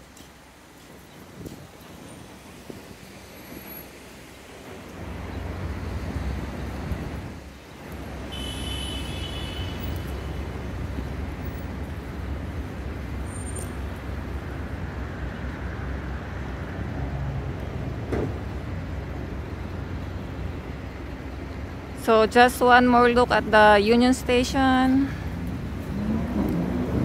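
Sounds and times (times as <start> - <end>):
street traffic passing: 0.0 - 27.0.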